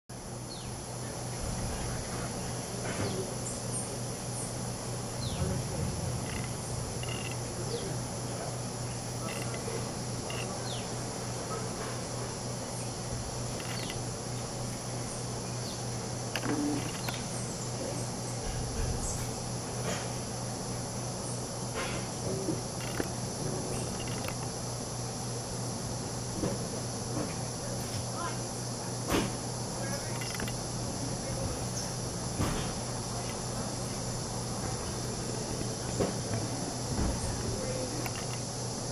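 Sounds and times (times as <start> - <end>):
high-pitched insect drone: 0.4 - 38.9.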